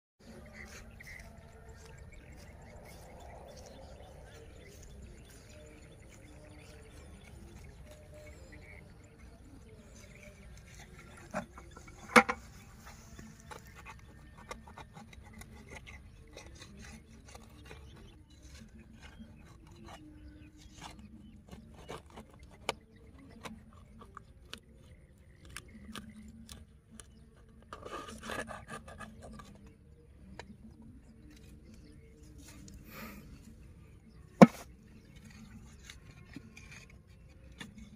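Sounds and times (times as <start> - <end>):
scraping of dry soil and straw: 0.2 - 24.2, 27.1 - 37.9.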